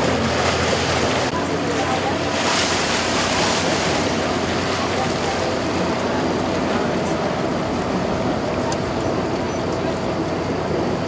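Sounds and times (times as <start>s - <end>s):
motorboat engine drone: 0.0s - 11.0s
water rushing along hull: 0.0s - 11.0s.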